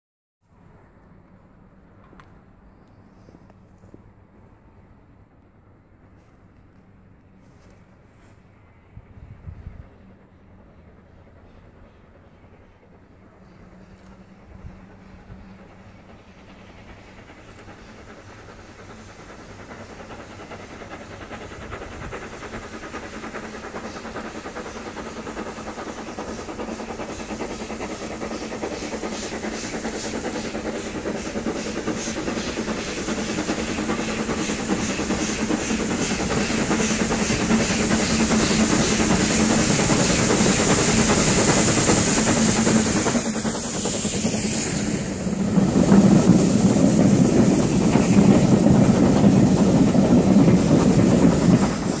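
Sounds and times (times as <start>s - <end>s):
steam locomotive exhaust beats: 0.6s - 52.0s.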